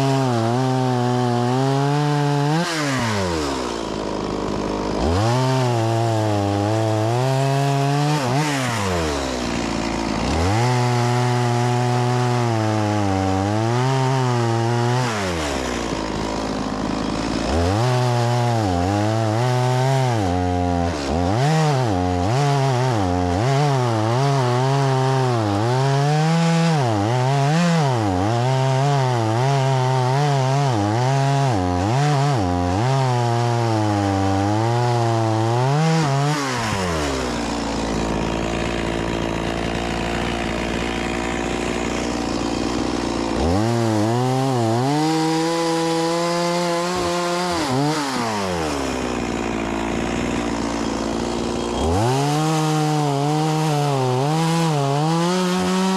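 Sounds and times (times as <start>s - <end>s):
chainsaw cutting logs: 0.0s - 55.9s.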